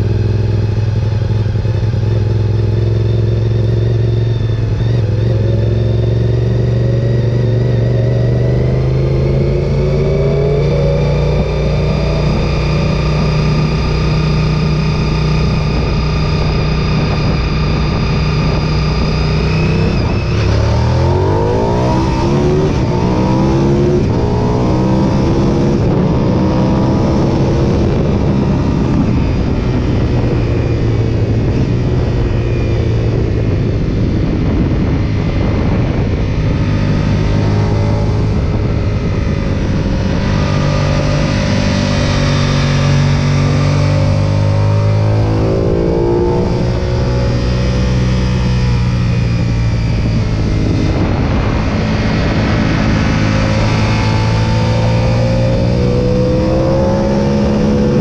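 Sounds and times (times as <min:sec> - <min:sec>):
motorcycle engine revving: 0:00.0 - 0:58.0
wind rushing: 0:07.7 - 0:58.0.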